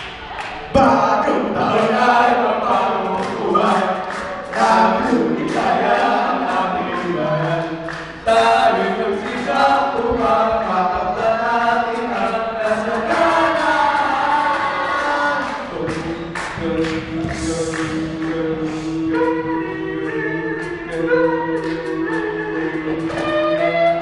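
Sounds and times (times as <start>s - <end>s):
men singing in harmony: 0.7s - 24.0s.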